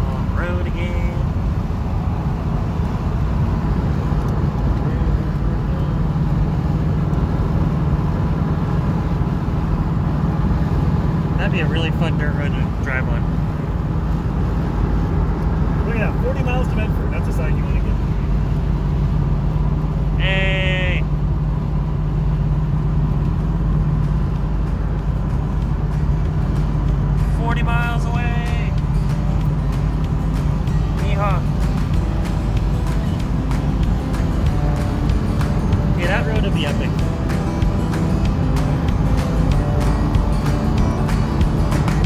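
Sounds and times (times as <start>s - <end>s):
car engine droning: 0.0s - 42.0s
road and tyre noise: 0.0s - 42.0s.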